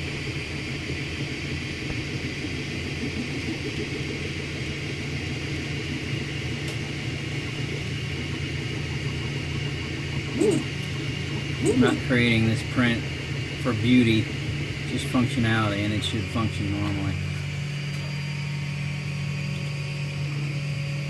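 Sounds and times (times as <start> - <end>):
printer mechanical hum: 0.0 - 21.0.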